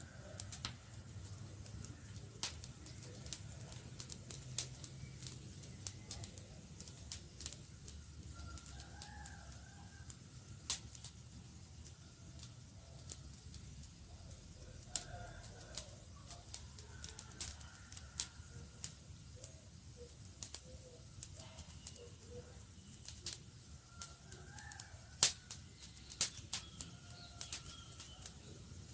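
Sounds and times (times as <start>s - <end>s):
campfire crackling and popping: 0.0s - 28.9s
low rumble of flames: 0.0s - 28.9s.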